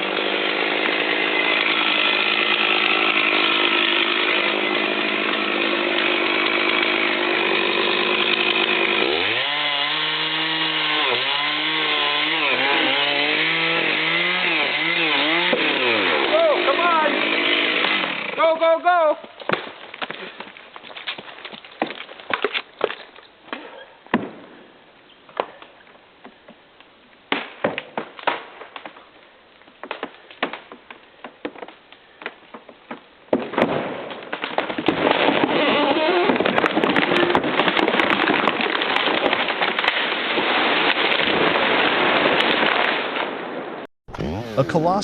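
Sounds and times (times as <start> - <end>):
wood cracking and snapping: 0.0 - 18.4, 19.2 - 24.3, 25.4 - 43.4.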